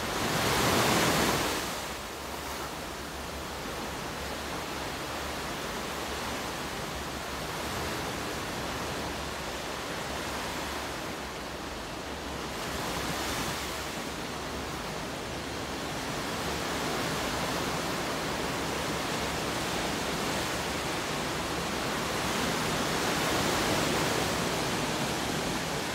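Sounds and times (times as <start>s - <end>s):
ocean waves breaking on beach: 0.0s - 25.9s.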